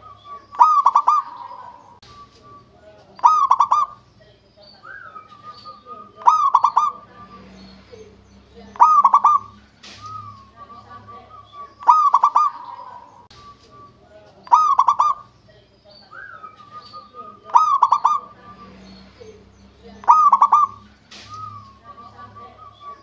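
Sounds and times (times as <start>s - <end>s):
dove cooing: 0.0s - 4.0s, 4.9s - 7.5s, 8.7s - 15.3s, 16.2s - 18.7s, 20.0s - 23.0s.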